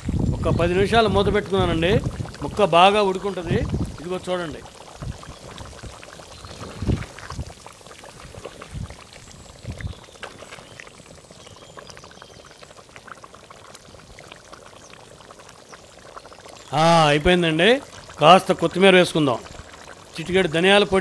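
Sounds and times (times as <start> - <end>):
thick gravy bubbling in pot: 0.0 - 21.0.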